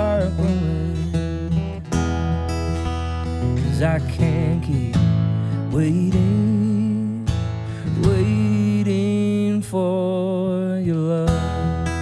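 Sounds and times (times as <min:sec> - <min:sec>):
man singing with vibrato: 0:00.0 - 0:01.5, 0:03.4 - 0:12.0
strummed acoustic guitar: 0:00.0 - 0:12.0.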